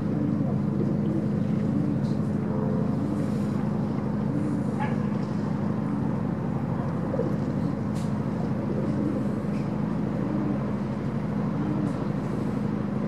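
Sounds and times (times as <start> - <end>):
ship diesel engines droning: 0.0 - 13.0.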